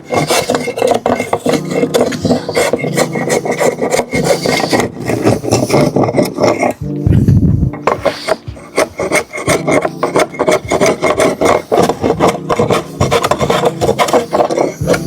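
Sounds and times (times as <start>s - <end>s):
hand tool scraping wood: 0.0s - 7.0s, 7.8s - 15.0s.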